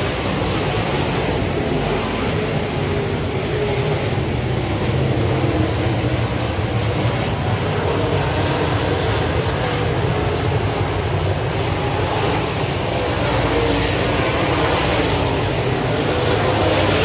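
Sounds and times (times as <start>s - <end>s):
race car engines roaring: 0.0s - 17.0s.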